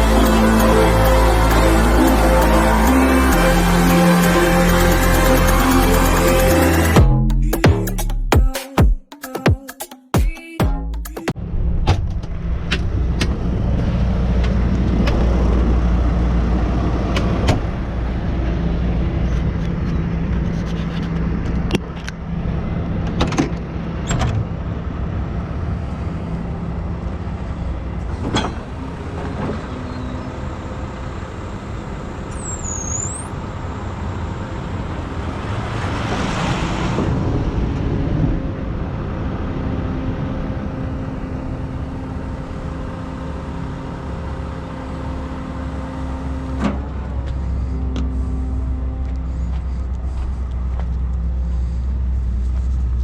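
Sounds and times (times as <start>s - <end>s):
diesel truck engine droning: 0.0s - 8.2s, 11.0s - 53.0s.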